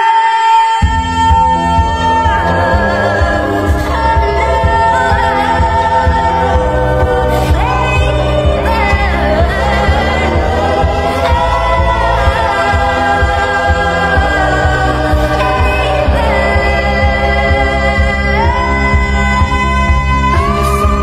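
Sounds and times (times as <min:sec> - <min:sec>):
sped-up pop song: 0:00.0 - 0:21.0.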